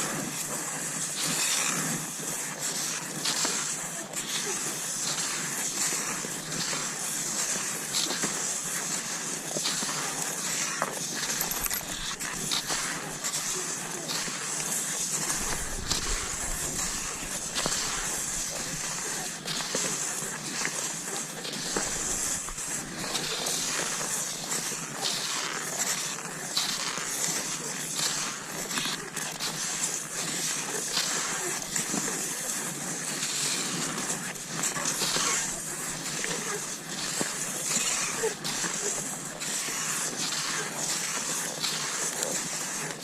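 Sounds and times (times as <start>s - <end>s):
skis swishing over snow: 0.0s - 43.0s.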